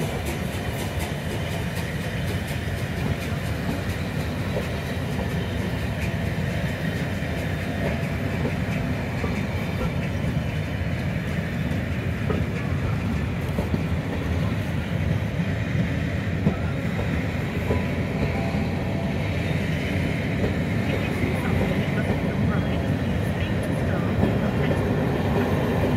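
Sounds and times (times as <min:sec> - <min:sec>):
train wheels rumbling: 0:00.0 - 0:25.9.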